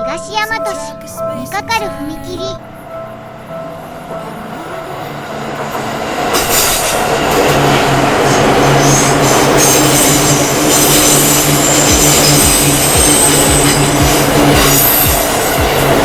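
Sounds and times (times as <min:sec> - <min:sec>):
crossing warning bell ringing: 0:00.0 - 0:16.0
high wheel squeal: 0:02.7 - 0:16.0
train wheels clacking: 0:02.7 - 0:16.0.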